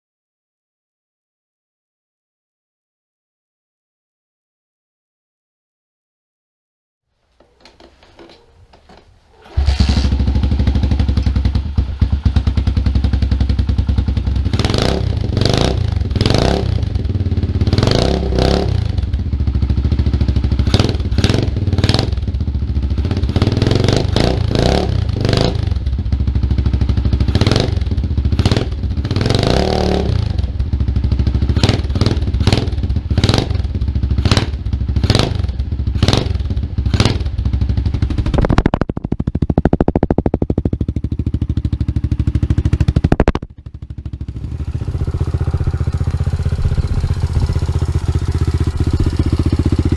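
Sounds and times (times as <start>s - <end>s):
motorcycle engine revving: 9.4s - 49.9s.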